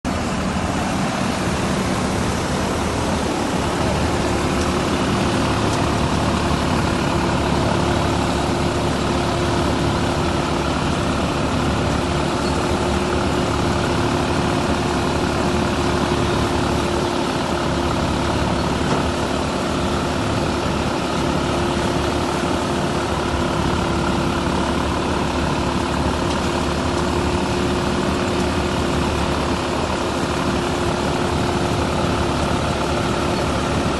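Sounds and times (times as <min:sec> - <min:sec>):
thresher running: 0:00.0 - 0:33.9.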